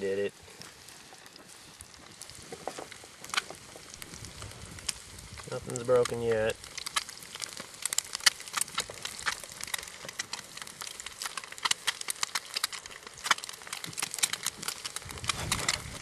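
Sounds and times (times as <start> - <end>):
eggs sizzling in a pan: 0.0 - 16.0
fire popping and crackling: 0.0 - 16.0.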